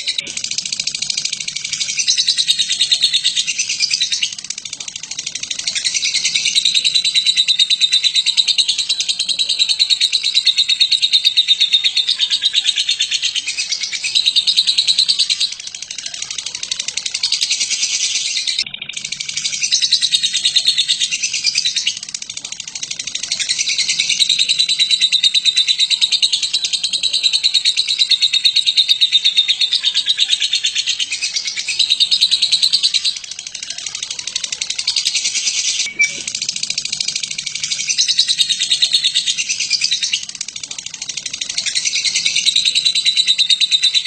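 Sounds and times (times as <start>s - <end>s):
lovebird chattering: 0.0s - 44.0s.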